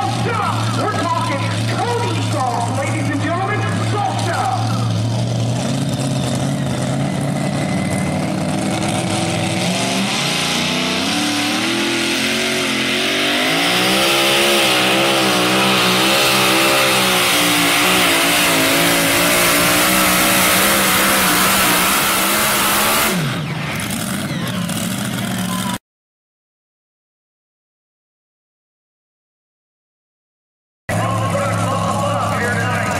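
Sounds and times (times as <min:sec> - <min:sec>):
tractor engine at full throttle: 0:00.0 - 0:25.8, 0:30.9 - 0:32.9.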